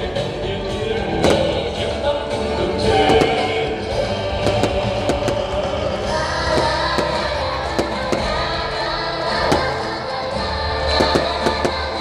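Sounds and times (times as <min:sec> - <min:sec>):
song with singing: 0:00.0 - 0:12.0
fireworks popping: 0:01.1 - 0:12.0.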